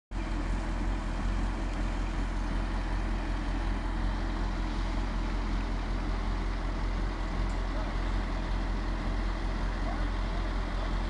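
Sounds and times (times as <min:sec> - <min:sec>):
diesel truck engine rumbling: 0:00.1 - 0:11.0.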